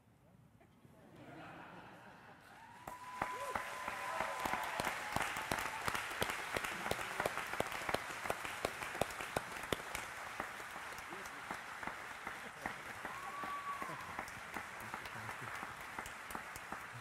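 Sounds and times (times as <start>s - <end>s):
audience applauding: 2.5s - 17.0s
audience cheering: 2.6s - 17.0s.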